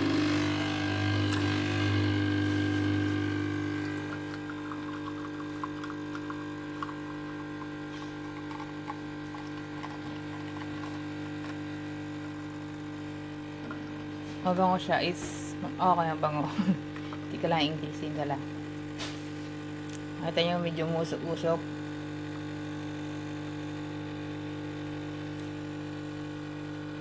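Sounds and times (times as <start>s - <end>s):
espresso machine pump humming: 0.0s - 27.0s.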